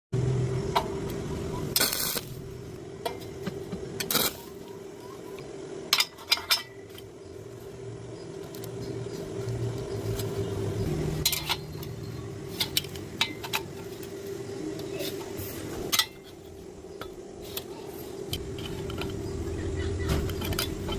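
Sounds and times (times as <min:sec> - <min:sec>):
steady machine hum: 0:00.1 - 0:20.9.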